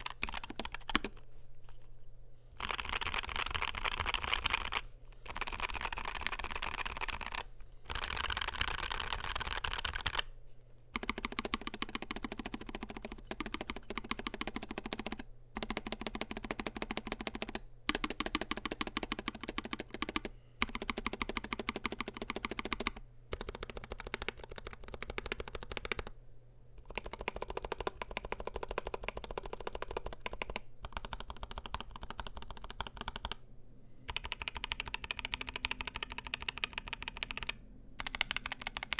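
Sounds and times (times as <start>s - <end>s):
mechanical keyboard typing: 0.0s - 1.2s, 2.6s - 10.3s, 11.0s - 26.1s, 26.8s - 33.4s, 34.1s - 38.9s.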